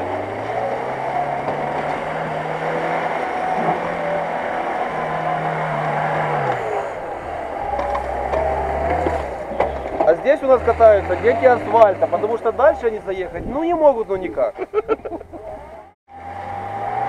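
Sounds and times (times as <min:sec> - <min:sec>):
car engine revving: 0:00.0 - 0:14.0, 0:15.2 - 0:17.0.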